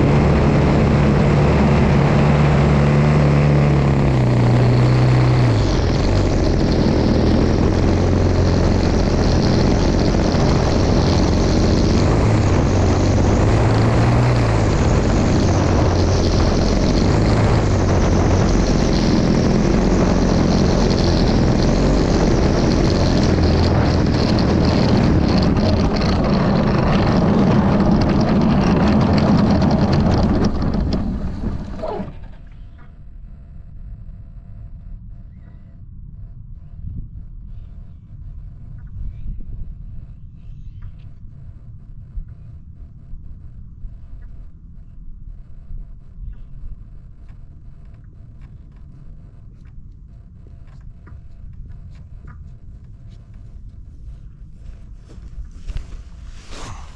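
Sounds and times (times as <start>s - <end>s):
radial aircraft engine and propeller: 0.0s - 56.9s.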